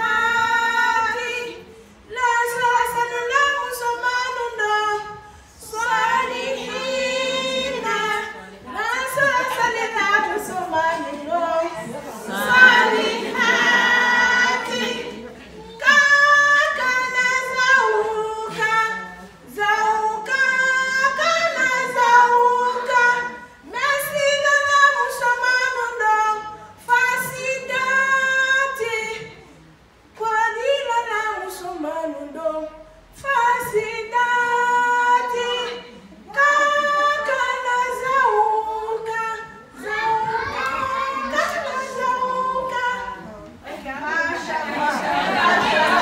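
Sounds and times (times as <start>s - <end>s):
woman singing unaccompanied: 0.0s - 29.5s, 30.1s - 44.7s.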